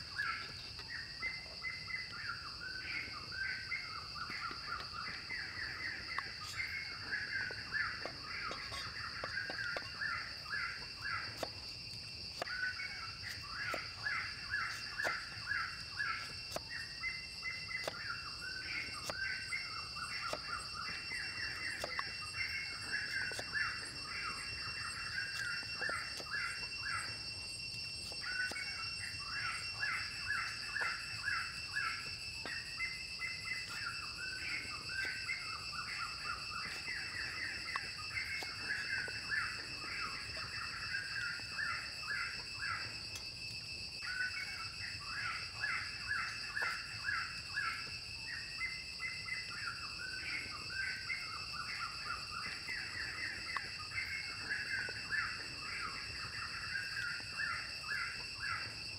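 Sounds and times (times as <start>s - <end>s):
insect drone: 0.0s - 58.9s
rapid chirping trills: 0.0s - 58.9s.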